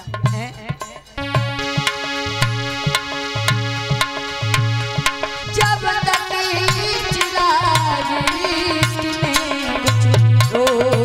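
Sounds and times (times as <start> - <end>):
wavering vocal melody: 1.2 - 10.7.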